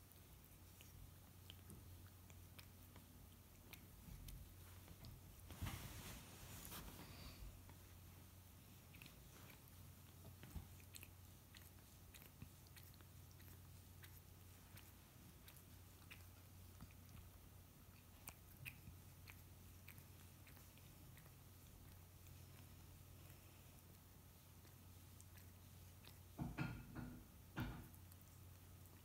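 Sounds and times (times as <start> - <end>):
cat licking wet clicks: 0.0 - 5.4, 7.6 - 26.4, 27.2 - 29.0
low steady hum: 0.0 - 29.0.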